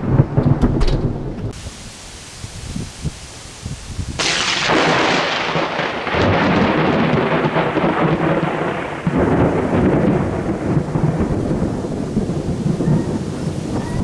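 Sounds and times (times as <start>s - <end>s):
rolling thunder with loud crack: 0.0s - 1.7s, 4.0s - 14.0s.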